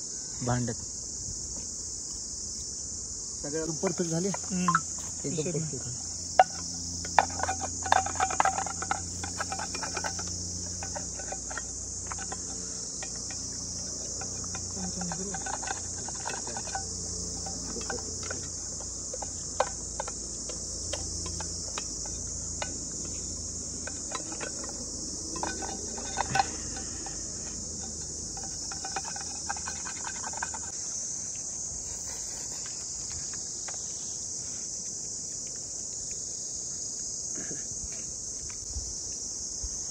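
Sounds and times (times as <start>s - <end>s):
insects chorus: 0.0s - 39.9s
light clinks and knocks: 3.6s - 37.2s.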